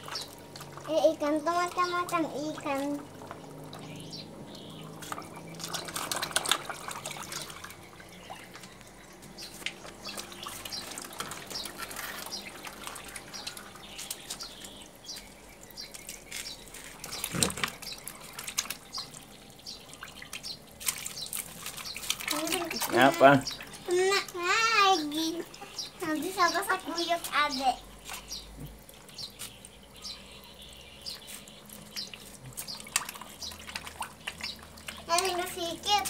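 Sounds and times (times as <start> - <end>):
fish splashing and slurping: 0.0 - 36.0.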